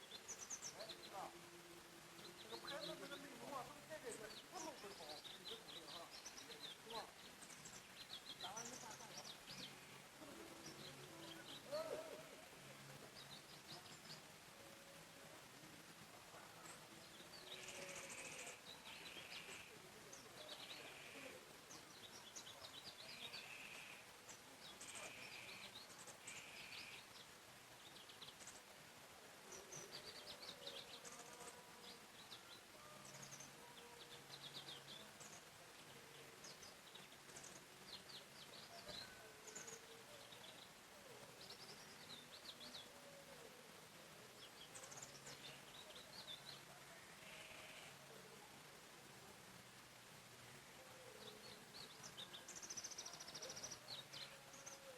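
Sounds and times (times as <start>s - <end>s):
songbirds chirping and trilling: 0.0s - 54.9s.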